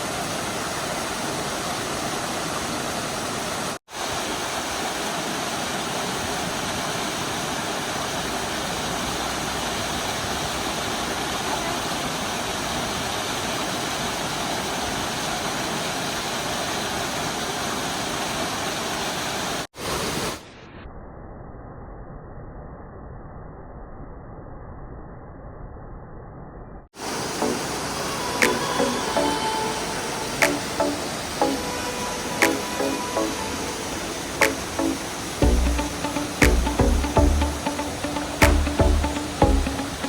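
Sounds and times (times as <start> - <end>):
waterfall rushing water: 0.0 - 20.4, 27.0 - 40.0.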